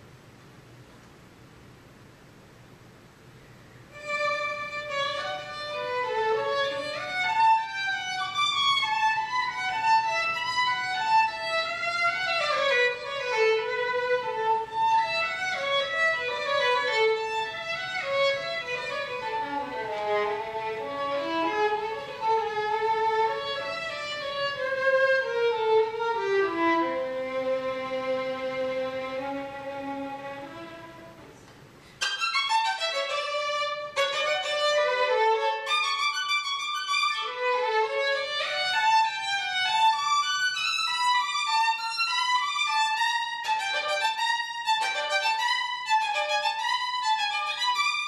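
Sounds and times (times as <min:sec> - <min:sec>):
solo violin playing fast run: 0:03.9 - 0:31.2, 0:32.0 - 0:48.0.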